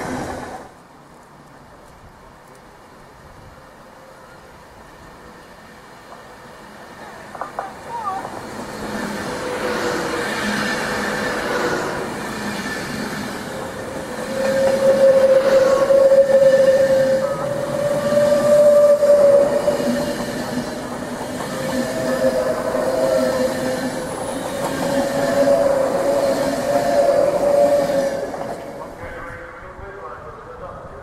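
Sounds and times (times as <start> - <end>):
rail noise: 0.0 - 31.0
train whining tone: 3.9 - 30.8.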